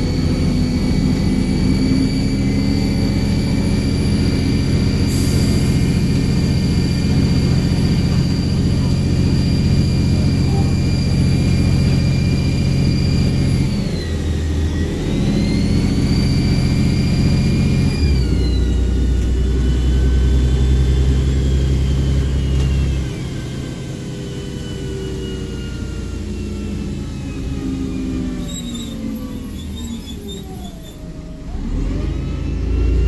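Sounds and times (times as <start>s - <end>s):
bus engine under load: 0.0s - 33.0s
high turbo whistle: 0.3s - 31.8s.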